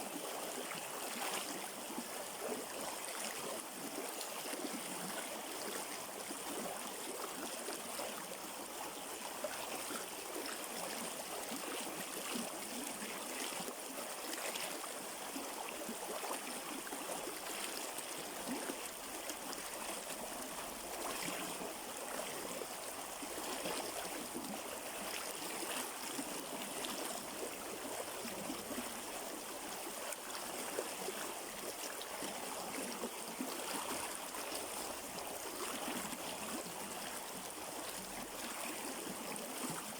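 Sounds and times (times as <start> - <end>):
river flowing over stones: 0.1 - 39.9.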